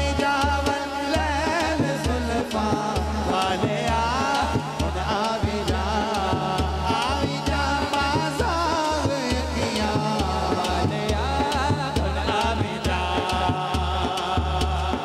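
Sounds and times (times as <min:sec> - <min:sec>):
frame drum beat: 0:00.0 - 0:15.0
man singing: 0:00.0 - 0:15.0.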